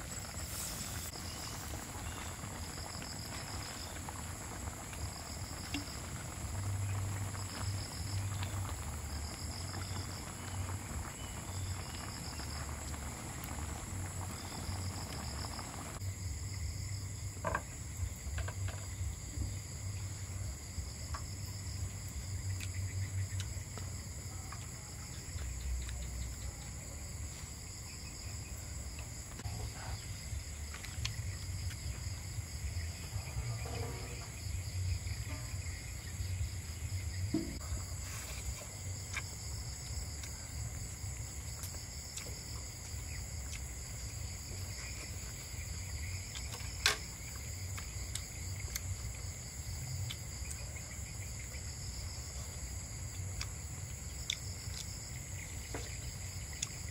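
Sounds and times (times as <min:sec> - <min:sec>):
crickets trilling: 0:00.0 - 0:56.9.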